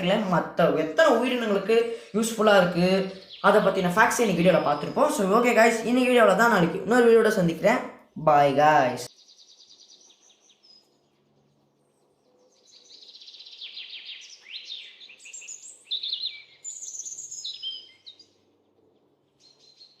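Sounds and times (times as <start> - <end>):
birds chirping and singing: 0.0 - 7.8, 8.5 - 20.0.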